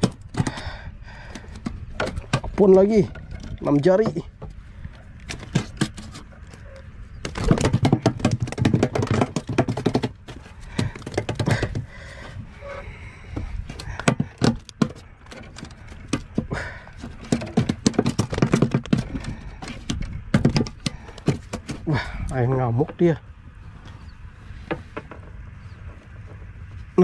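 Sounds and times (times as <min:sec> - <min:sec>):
fish flopping on wooden boards: 0:00.0 - 0:22.3.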